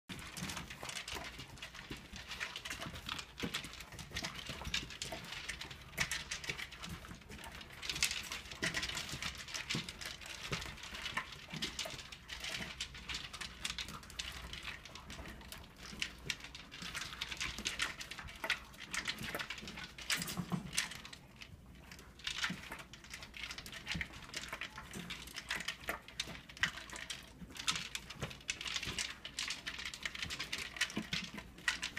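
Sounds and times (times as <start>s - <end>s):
kibble rattling in plastic bowls: 0.1s - 31.9s.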